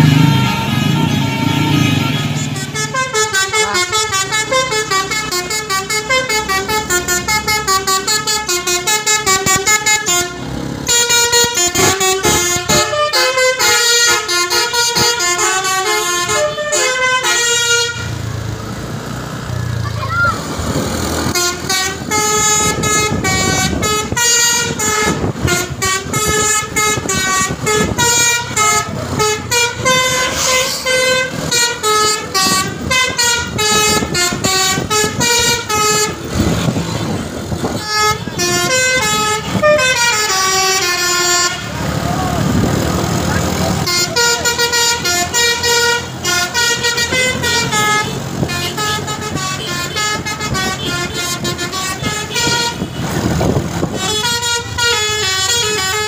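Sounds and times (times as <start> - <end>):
musical air horn melody: 0.0 - 18.2, 21.3 - 41.8, 43.8 - 53.1, 53.9 - 56.0.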